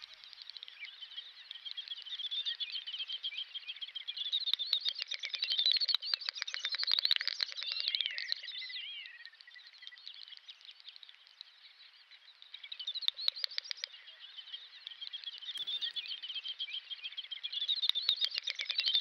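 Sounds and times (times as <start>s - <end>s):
songbirds singing and chirping: 0.0s - 19.0s.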